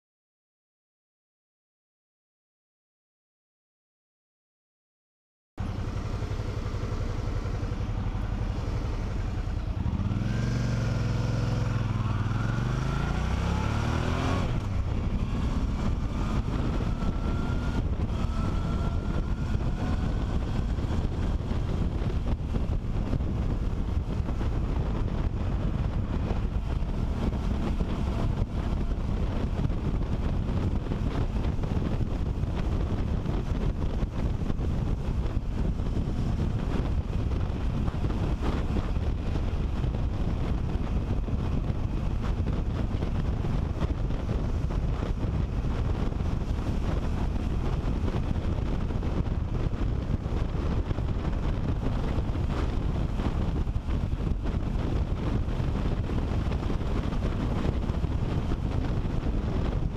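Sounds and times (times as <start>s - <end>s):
motorcycle engine accelerating: 5.6s - 59.9s
wind noise on microphone: 5.6s - 59.9s.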